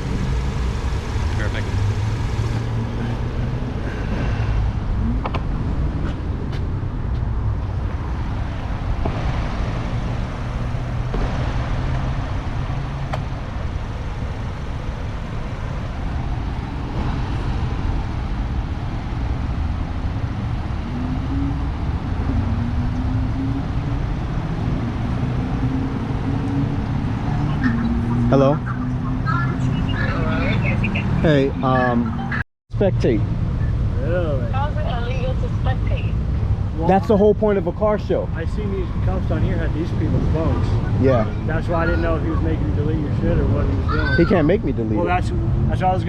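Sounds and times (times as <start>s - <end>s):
car engine revving: 0.0s - 46.0s
traffic rumble: 0.0s - 46.0s.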